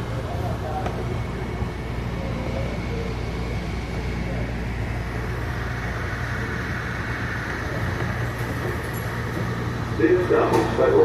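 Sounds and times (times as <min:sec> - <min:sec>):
high train whine: 0:00.0 - 0:11.0
train interior hum and rumble: 0:00.0 - 0:11.0.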